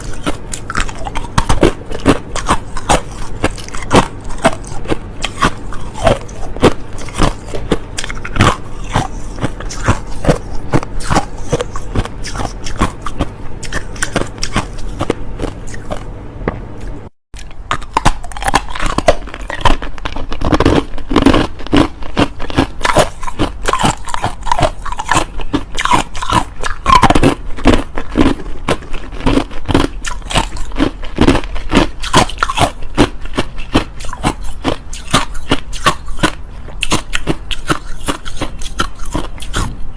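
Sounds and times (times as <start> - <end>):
chewing crushed ice: 0.0 - 16.1, 16.8 - 39.9.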